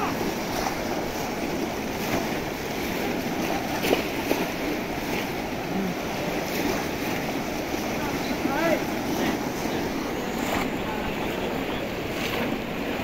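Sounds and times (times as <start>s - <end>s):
people splashing through water: 0.0s - 13.0s.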